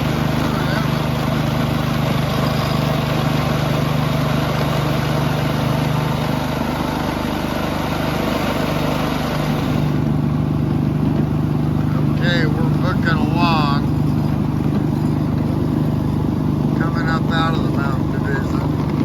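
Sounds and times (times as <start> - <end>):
small engine droning: 0.0 - 19.0.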